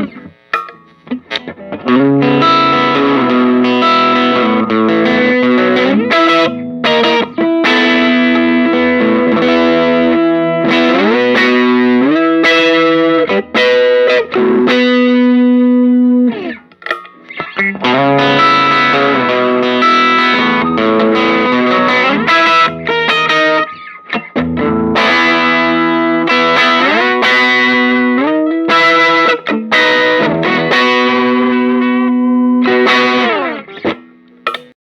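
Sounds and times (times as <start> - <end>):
distorted electric guitar: 0.0 - 34.8.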